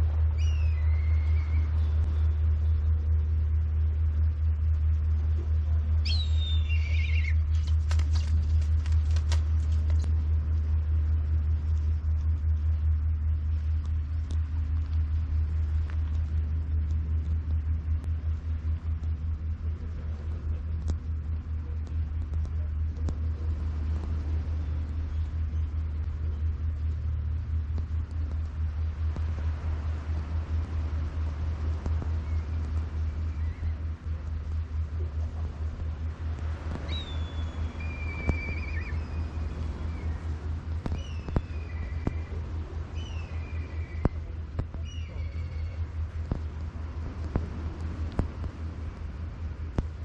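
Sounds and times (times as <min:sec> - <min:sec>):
low rumble with uneven flutter: 0:00.0 - 0:50.0.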